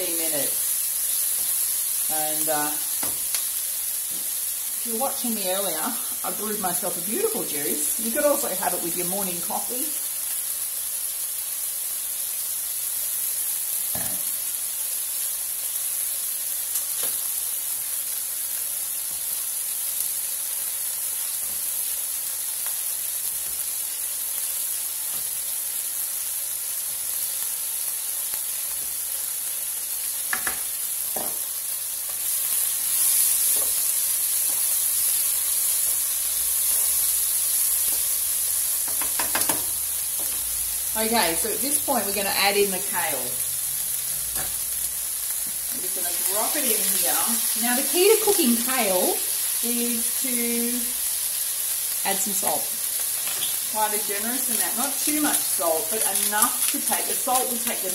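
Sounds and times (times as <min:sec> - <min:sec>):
food sizzling in a frying pan: 0:00.0 - 0:57.9.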